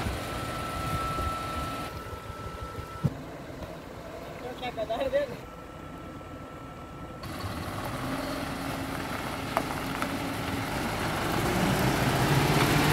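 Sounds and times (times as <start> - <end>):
diesel truck engine running: 0.0 - 12.9.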